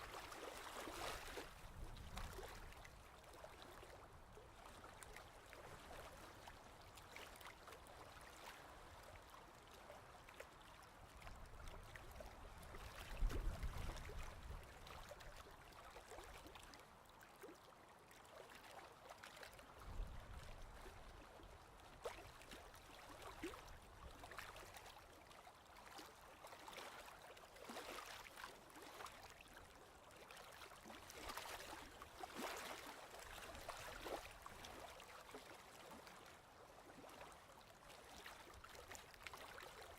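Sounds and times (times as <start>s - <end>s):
small water splashes: 0.0s - 39.9s.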